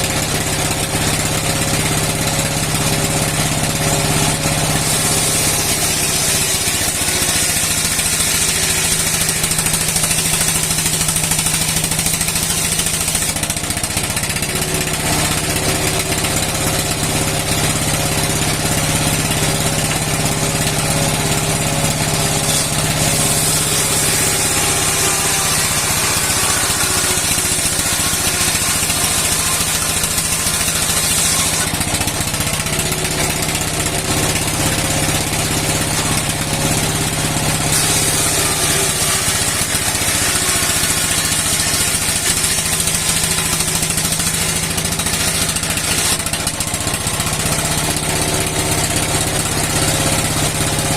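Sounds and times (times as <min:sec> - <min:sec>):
old engine running steadily: 0:00.0 - 0:50.9.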